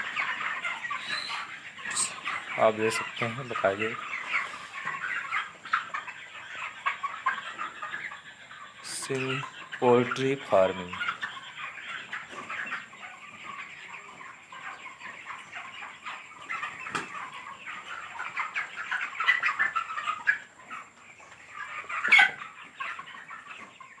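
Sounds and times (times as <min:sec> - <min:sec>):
chickens clucking and chirping: 0:00.0 - 0:24.0.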